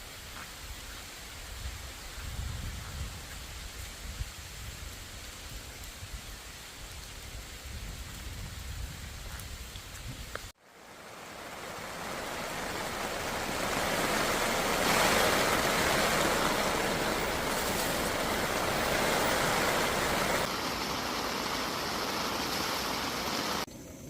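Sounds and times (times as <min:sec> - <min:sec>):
wind: 0:00.0 - 0:24.0
heavy rain: 0:00.1 - 0:23.7.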